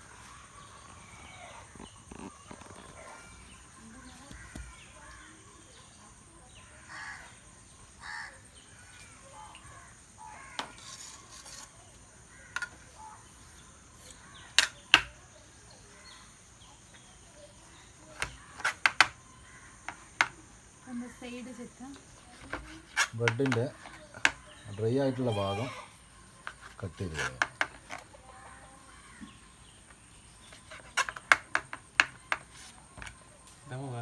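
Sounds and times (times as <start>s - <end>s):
faint bird chirps: 0.0s - 34.0s.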